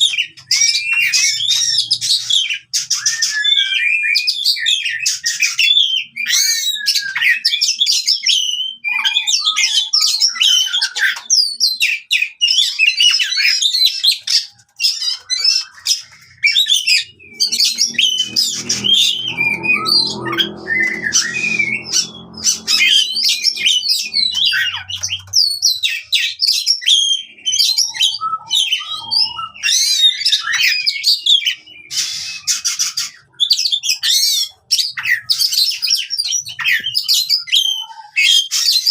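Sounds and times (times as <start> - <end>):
bird singing whistles and chatters: 0.0 - 38.9.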